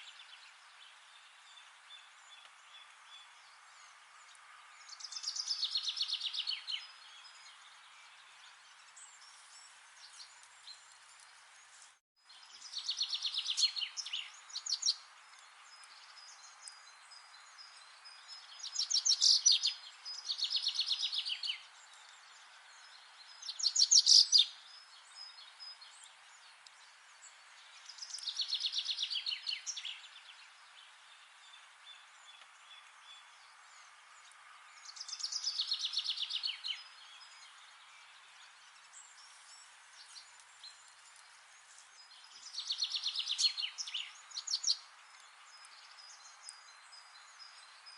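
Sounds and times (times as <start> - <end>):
forest ambience hiss: 0.0 - 47.9.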